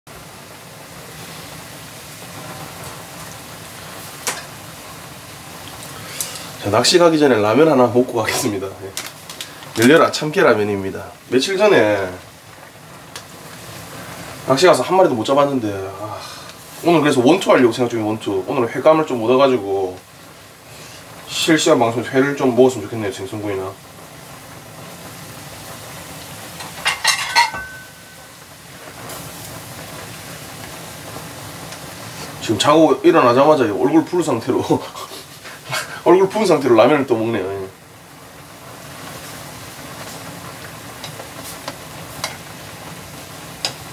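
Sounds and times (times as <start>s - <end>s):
crackling hiss: 0.1s - 43.9s.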